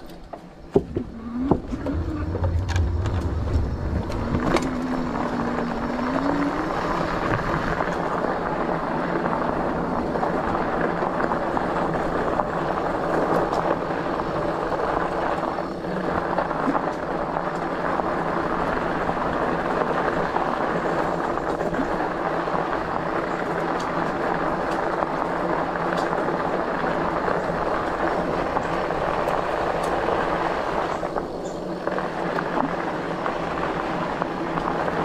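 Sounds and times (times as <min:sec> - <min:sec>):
bike tires rolling on dirt: 0:00.0 - 0:35.0
low motor hum: 0:00.0 - 0:35.0.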